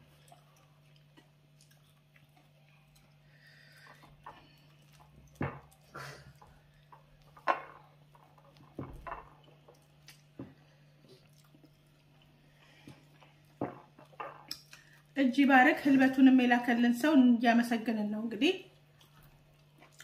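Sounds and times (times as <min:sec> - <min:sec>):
people chewing and smacking: 0:00.0 - 0:15.2, 0:18.8 - 0:20.0
faint steady hum: 0:00.0 - 0:20.0.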